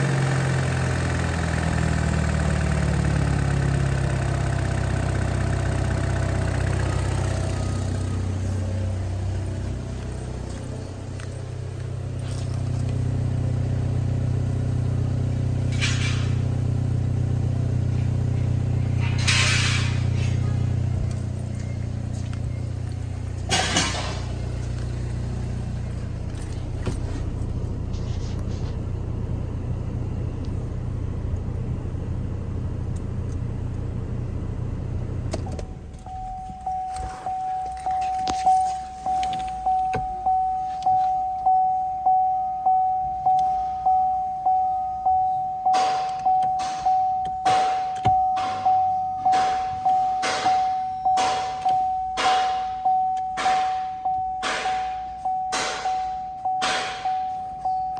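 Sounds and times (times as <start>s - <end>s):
car engine idling: 0.0s - 57.9s
car warning chime dinging: 2.8s - 19.1s, 19.9s - 28.0s, 35.4s - 57.9s.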